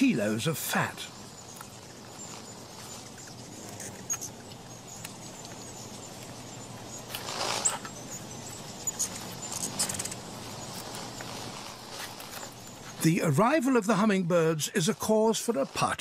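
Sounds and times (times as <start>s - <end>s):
hummingbird chip calls: 0.0s - 16.0s.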